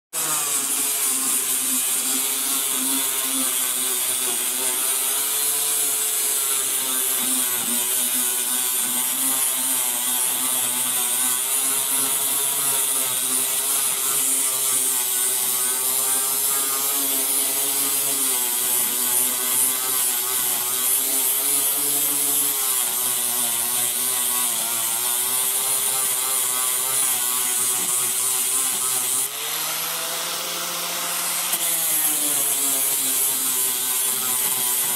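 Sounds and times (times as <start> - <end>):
angle grinder motor whine: 0.2 - 34.9.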